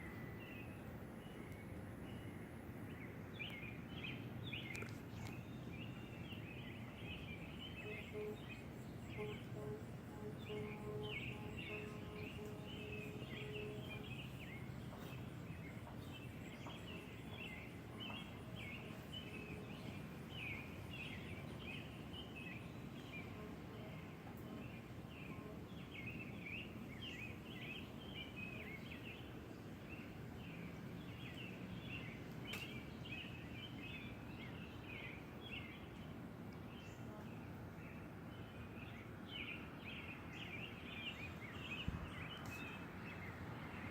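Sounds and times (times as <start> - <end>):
birds chirping: 2.9 - 43.9.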